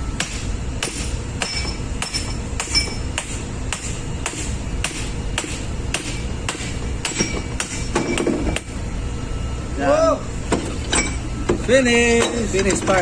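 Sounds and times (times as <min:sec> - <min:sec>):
low engine room drone: 0:00.0 - 0:13.0.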